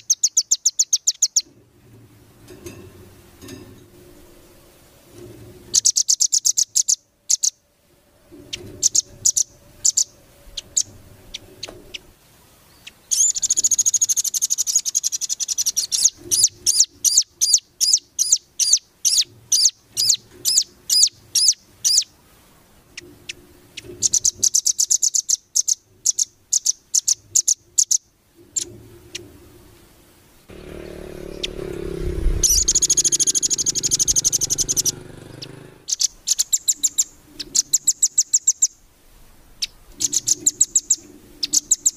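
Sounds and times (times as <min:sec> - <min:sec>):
songbird chipping and trilling: 0:00.0 - 0:01.5, 0:05.7 - 0:07.6, 0:08.4 - 0:22.2, 0:23.0 - 0:29.2, 0:30.8 - 0:38.9, 0:39.6 - 0:41.9.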